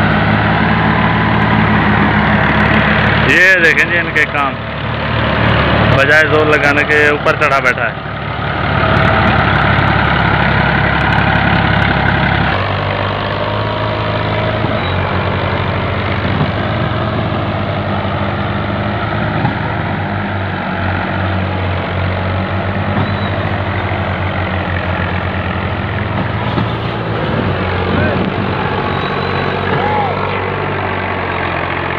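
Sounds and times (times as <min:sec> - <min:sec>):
tractor diesel engine straining: 0:00.0 - 0:31.9.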